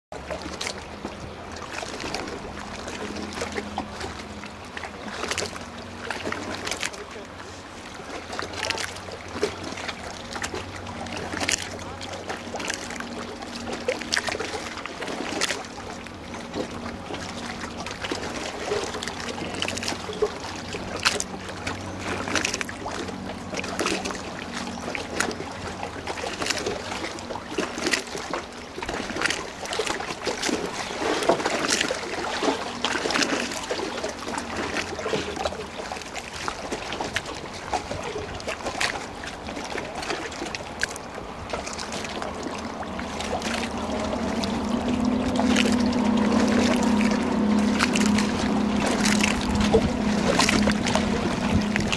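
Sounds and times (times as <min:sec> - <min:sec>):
small waves lapping and splashing: 0:00.1 - 0:51.9.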